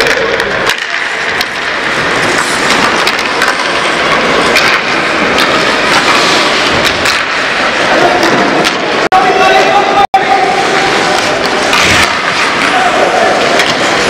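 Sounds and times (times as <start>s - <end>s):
hockey sticks clacking: 0.0s - 14.0s
skates scraping ice: 0.0s - 14.0s.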